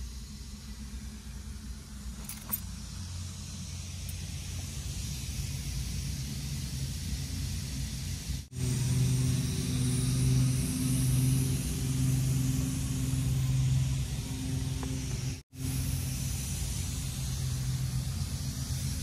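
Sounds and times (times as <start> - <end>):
high hiss: 0.0 - 19.0
low hum: 0.0 - 19.0.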